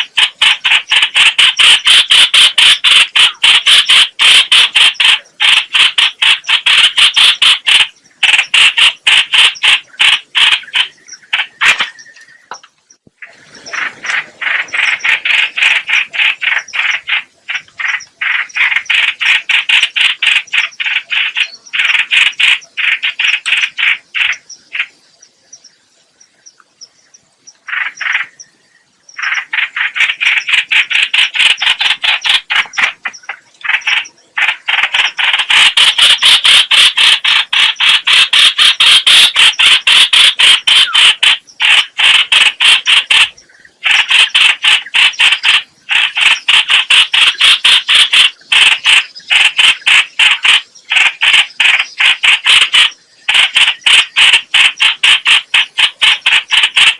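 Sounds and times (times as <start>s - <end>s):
bird chattering calls: 0.0s - 25.0s, 27.6s - 56.9s.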